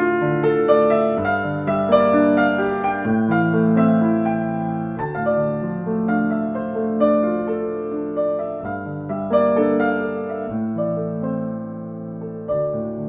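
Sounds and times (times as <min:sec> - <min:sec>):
slow solo piano music: 0:00.0 - 0:13.0.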